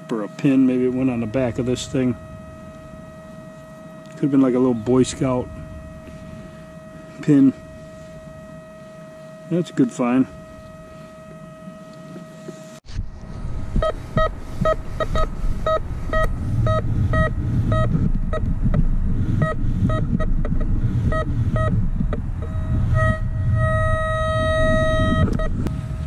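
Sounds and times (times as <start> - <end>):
metal detector beeping: 0.0 - 12.8, 13.8 - 18.5, 19.4 - 26.0.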